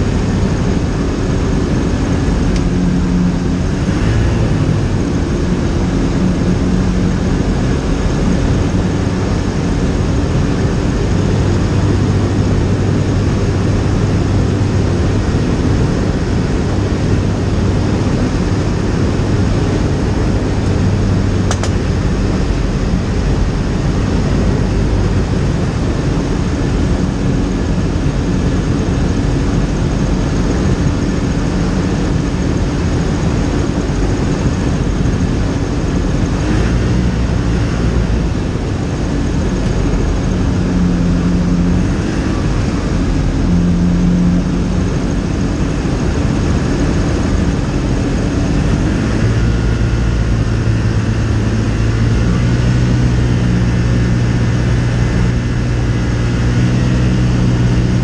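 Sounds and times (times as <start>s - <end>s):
microlight engine and propeller: 0.0s - 58.0s.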